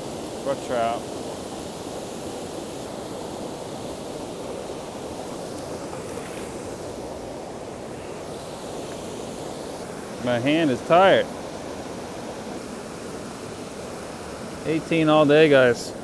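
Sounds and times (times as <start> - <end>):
whitewater rushing over waterfall: 0.0 - 16.0.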